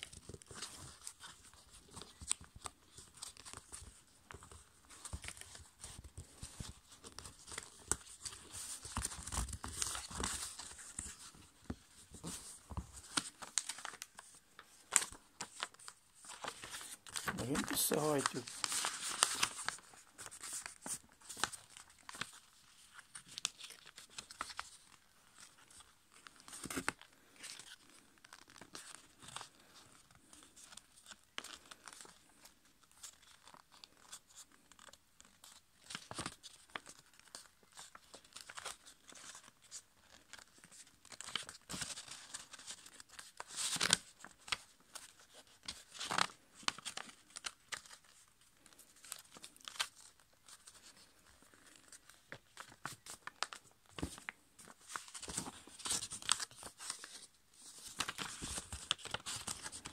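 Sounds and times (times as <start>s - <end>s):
paper crinkling and rustling: 0.0s - 59.9s.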